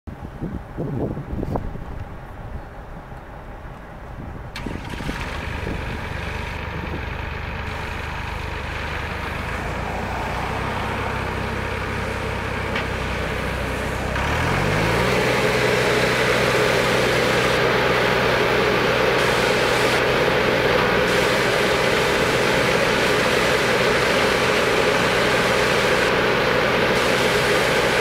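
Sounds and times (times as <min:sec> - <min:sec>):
diesel engine idling and revving: 0:00.2 - 0:28.0.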